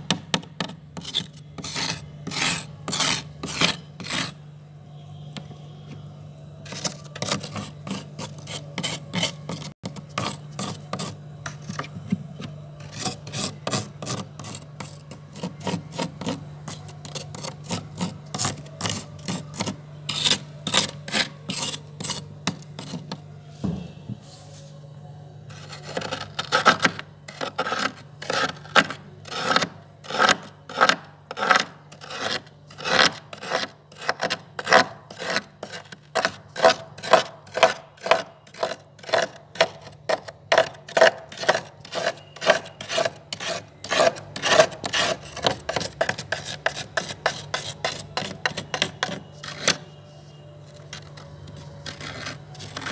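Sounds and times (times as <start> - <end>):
freezer low hum: 0.0 - 52.9
metal spoon scraping frost: 0.6 - 4.4, 6.6 - 23.2, 25.5 - 52.9.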